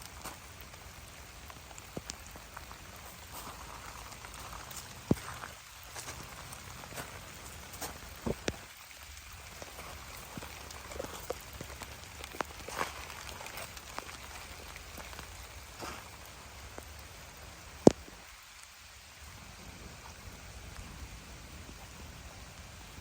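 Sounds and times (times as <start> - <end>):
single raindrops striking close: 0.0 - 22.7
rain falling: 0.0 - 23.0.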